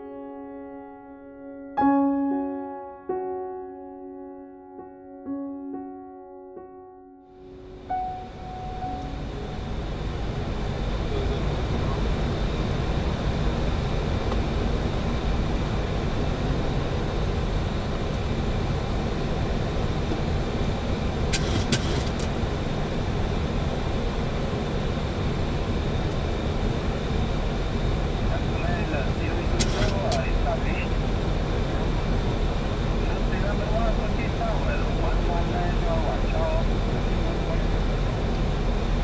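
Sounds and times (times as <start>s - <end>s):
aircraft engine rumble: 7.4s - 39.0s.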